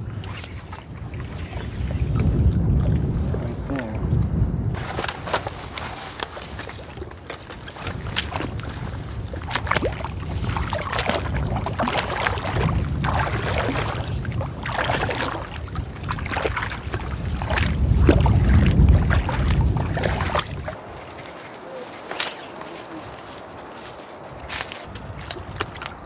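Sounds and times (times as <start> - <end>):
small waves lapping and splashing: 0.0 - 4.0, 4.7 - 26.0
wind rumbling on microphone: 0.0 - 26.0.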